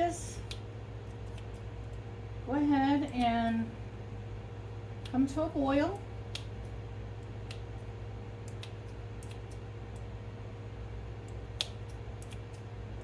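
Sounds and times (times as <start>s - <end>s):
low stove hum: 0.0s - 13.0s.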